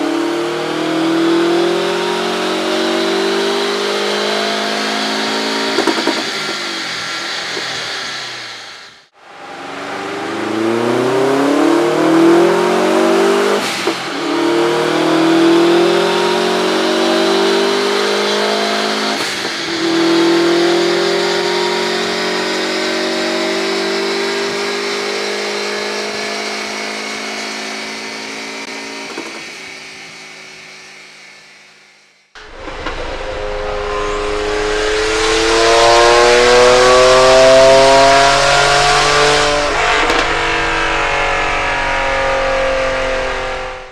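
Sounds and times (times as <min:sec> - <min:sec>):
turbo car engine accelerating hard: 0:00.0 - 0:08.6, 0:09.2 - 0:29.2, 0:32.4 - 0:43.9.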